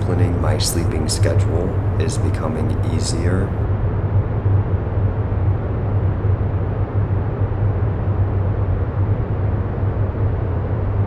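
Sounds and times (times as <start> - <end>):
low rumbling with strong hum: 0.0 - 11.0.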